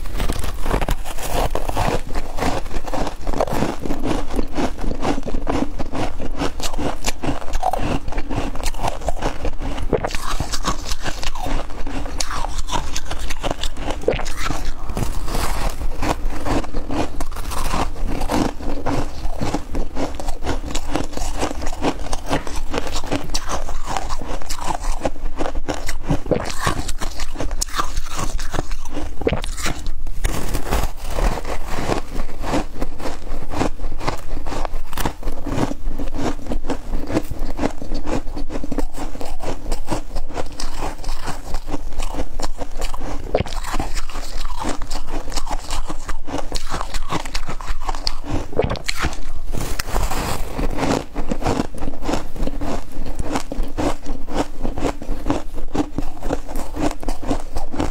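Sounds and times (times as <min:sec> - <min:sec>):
chewing crunchy frost: 0:00.0 - 0:57.9.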